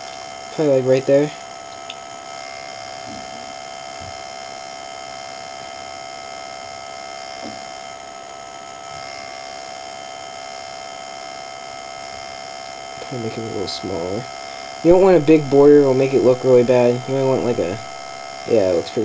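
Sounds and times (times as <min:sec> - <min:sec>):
electrical hum and whine: 0:00.0 - 0:19.0.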